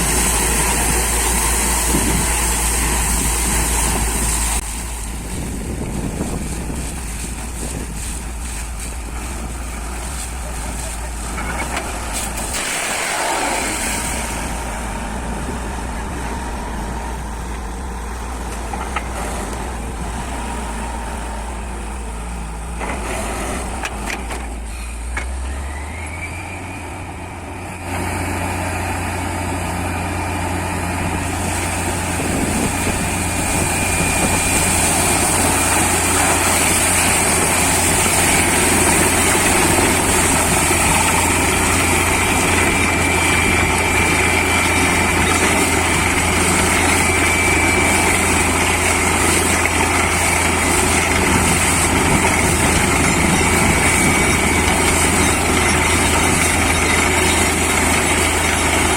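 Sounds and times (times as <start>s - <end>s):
drilling rig diesel engine: 0.0s - 58.9s.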